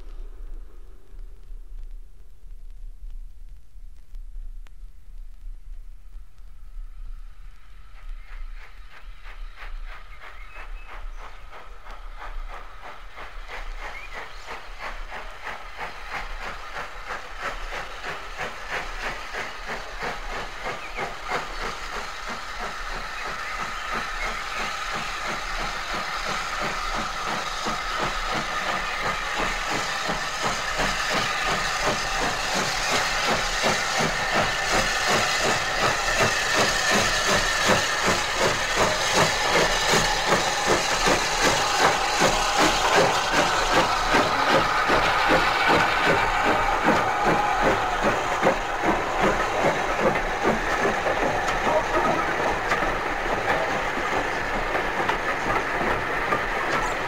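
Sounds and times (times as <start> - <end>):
steam locomotive exhaust beats: 0.0 - 57.0
steam hissing: 6.8 - 57.0.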